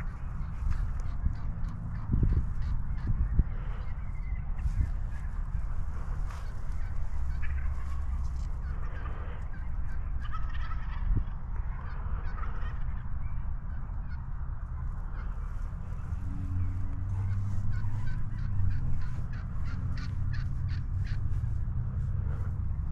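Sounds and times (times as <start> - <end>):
large birds calling: 0.0 - 22.9
low rumble: 0.0 - 22.9.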